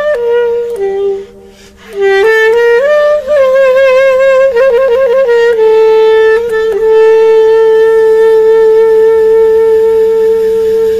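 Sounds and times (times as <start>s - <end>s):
solo wind instrument: 0.0s - 10.9s.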